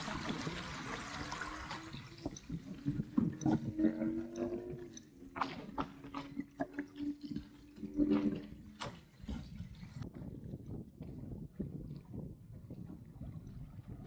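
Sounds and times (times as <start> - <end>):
water splashing along boat hull: 0.0 - 14.0.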